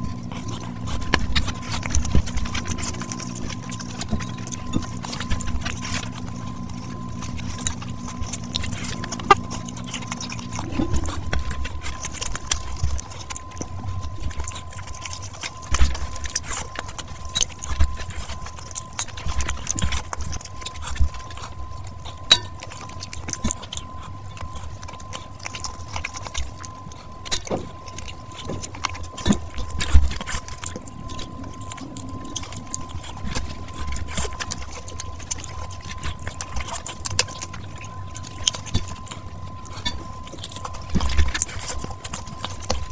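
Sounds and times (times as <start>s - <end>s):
wet chewing and mouth smacks: 0.0s - 42.9s.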